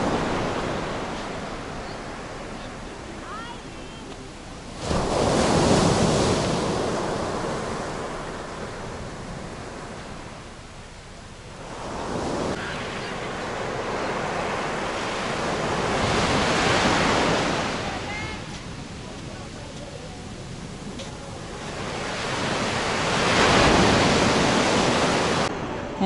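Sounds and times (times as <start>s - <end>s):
surf breaking on beach: 0.0s - 10.6s, 11.5s - 25.8s.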